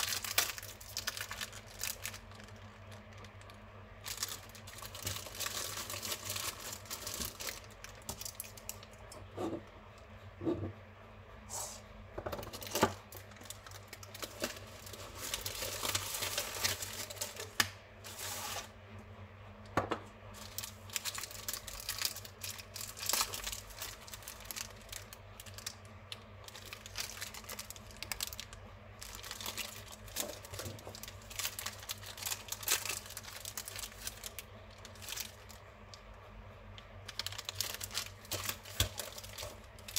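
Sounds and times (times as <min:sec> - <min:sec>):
wrappers rustling and crinkling: 0:00.0 - 0:08.8, 0:12.5 - 0:18.7, 0:20.4 - 0:25.8, 0:26.4 - 0:35.7, 0:37.1 - 0:39.9
wrapper tearing: 0:00.0 - 0:08.9, 0:12.5 - 0:18.7, 0:20.4 - 0:35.6, 0:37.1 - 0:39.9
steady low hum: 0:00.0 - 0:39.9.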